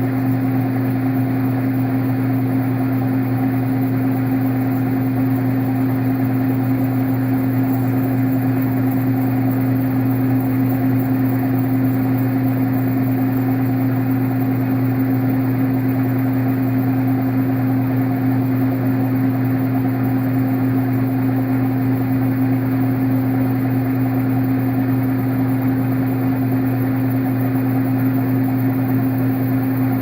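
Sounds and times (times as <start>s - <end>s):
metal lathe running: 0.0s - 30.0s.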